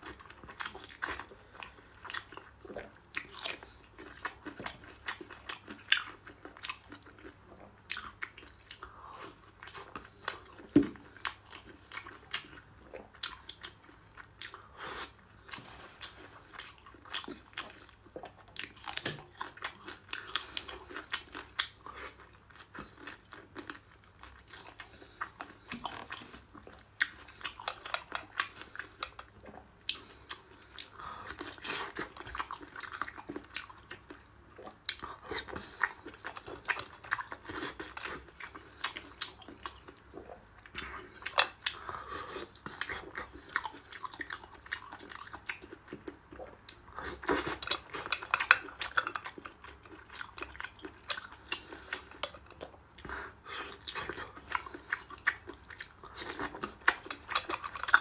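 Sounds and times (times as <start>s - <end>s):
person chewing wetly: 0.0s - 58.0s.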